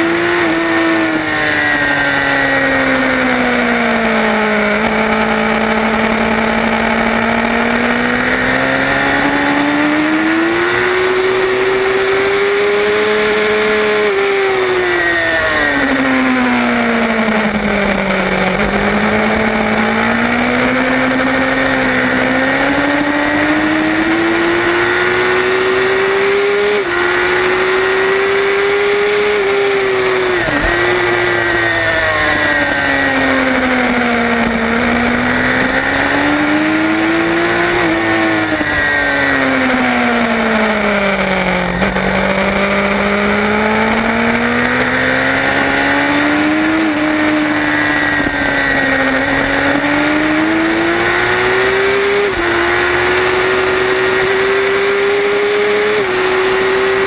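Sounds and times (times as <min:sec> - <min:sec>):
racing motorcycle engine revving: 0:00.0 - 0:57.0.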